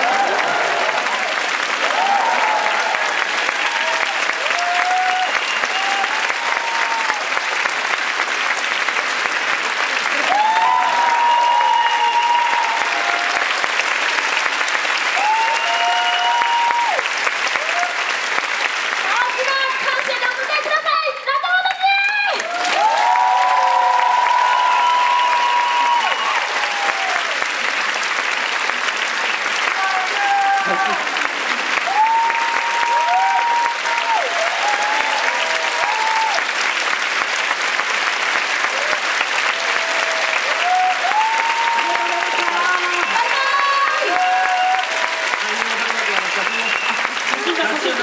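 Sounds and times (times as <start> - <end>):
high voices cheering: 0.0 - 7.4, 10.1 - 13.8, 15.1 - 18.1, 19.1 - 27.5, 29.6 - 36.6, 38.7 - 48.0
audience clapping: 0.0 - 48.0.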